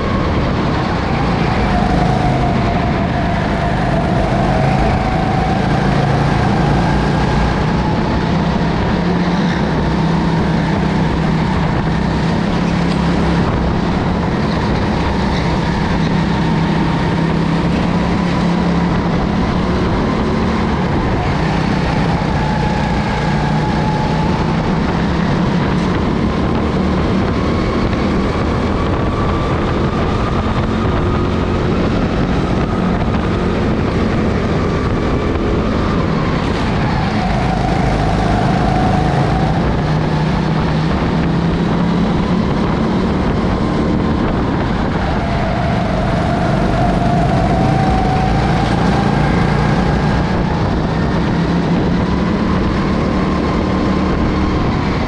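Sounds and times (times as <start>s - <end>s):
go-kart engine racing: 0.0s - 55.0s.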